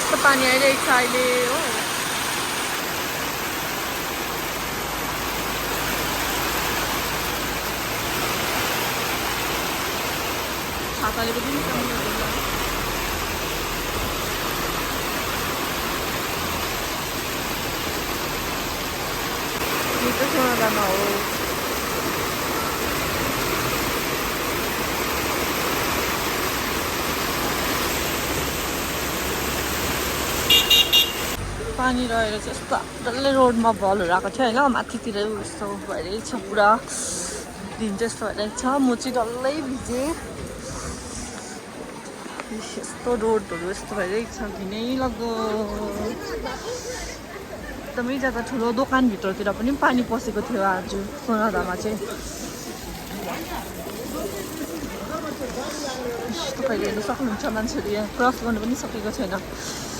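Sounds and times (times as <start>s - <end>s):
heavy rain pouring: 0.0s - 59.9s
runoff water rushing along road: 0.0s - 59.9s.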